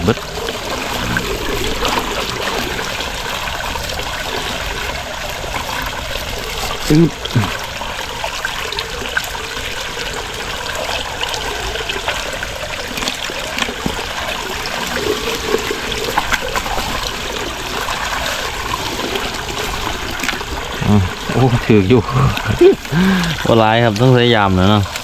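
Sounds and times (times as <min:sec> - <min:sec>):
rainwater trickling: 0:00.0 - 0:25.0
small water splashes: 0:00.0 - 0:25.0.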